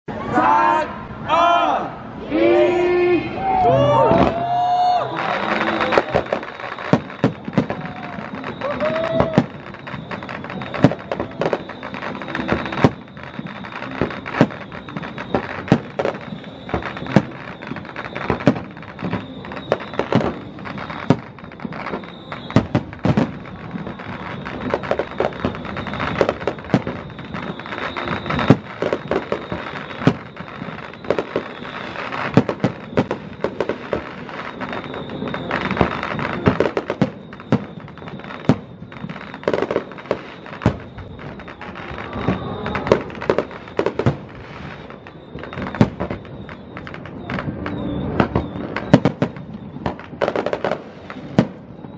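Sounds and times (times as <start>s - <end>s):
fireworks bursting: 2.1s - 51.9s.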